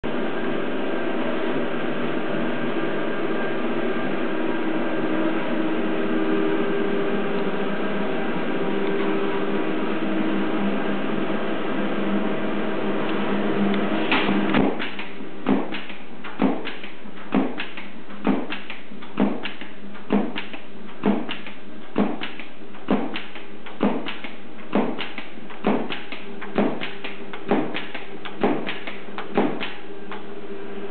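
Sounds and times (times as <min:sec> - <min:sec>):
steady machine hum: 0:00.0 - 0:30.9.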